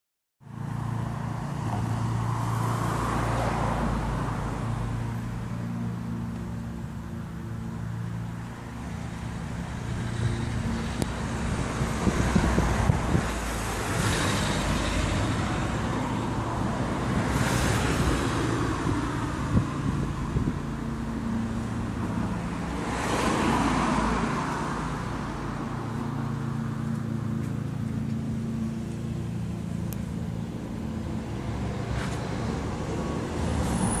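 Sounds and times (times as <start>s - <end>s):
steady engine drone: 0.4s - 34.0s
vehicles passing by: 0.4s - 34.0s.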